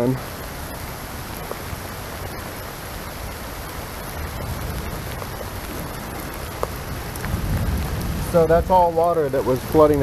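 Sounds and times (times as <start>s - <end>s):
pouring rain: 0.0s - 10.0s.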